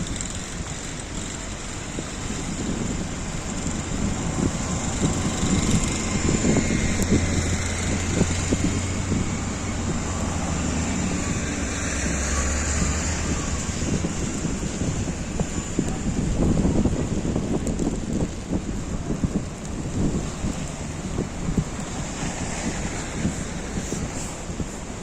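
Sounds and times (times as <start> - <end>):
city street traffic: 0.0 - 25.0
vehicle engine low hum: 0.0 - 25.0.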